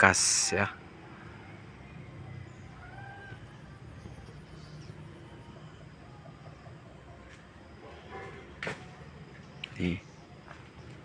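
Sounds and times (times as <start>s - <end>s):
low hum: 0.7s - 11.0s.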